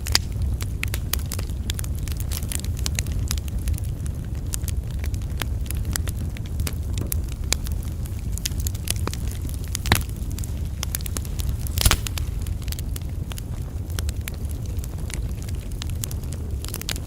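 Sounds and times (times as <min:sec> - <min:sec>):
campfire crackling: 0:00.0 - 0:17.0
fire low rumble: 0:00.0 - 0:17.0
loud fire pops: 0:00.0 - 0:17.0.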